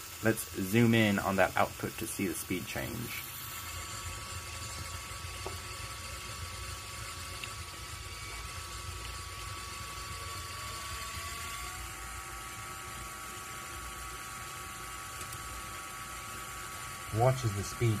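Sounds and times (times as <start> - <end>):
small electric motors whirring: 0.0 - 18.0.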